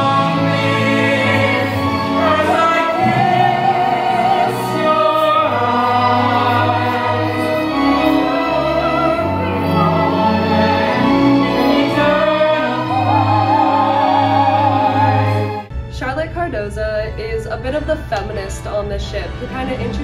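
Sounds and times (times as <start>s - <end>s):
instrumental accompaniment: 0.0s - 20.0s.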